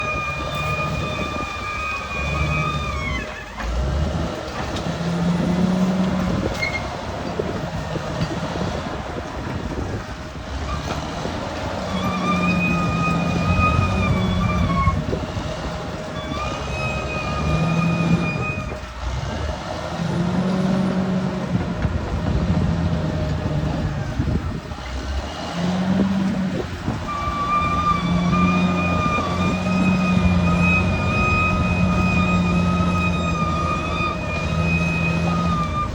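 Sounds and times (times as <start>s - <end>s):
bulldozer diesel engine working: 0.0s - 35.9s.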